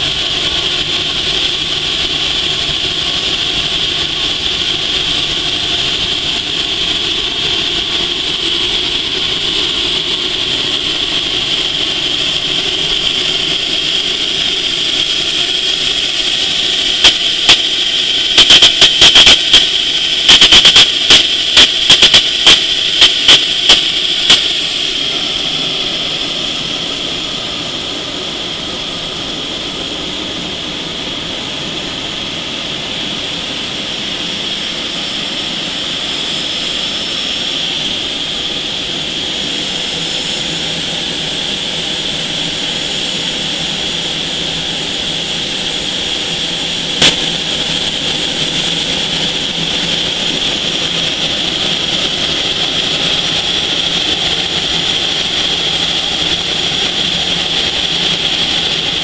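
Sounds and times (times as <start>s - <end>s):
gas turbine whine: 0.0s - 59.0s.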